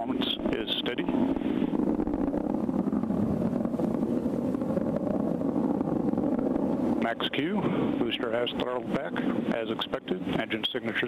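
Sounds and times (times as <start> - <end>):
rocket engine roar: 0.0 - 11.0.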